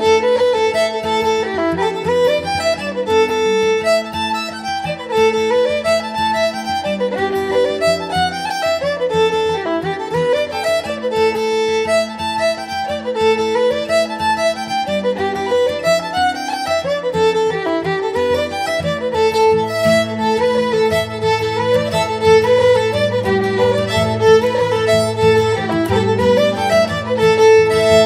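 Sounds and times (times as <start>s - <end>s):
fast fiddle tune: 0.0s - 28.0s.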